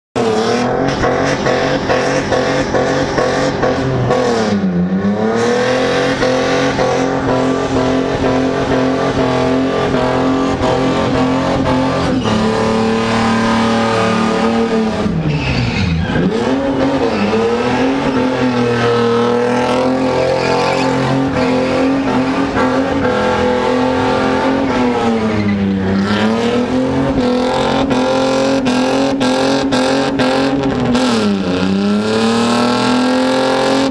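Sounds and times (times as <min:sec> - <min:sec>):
car engine revving hard: 0:00.2 - 0:33.9.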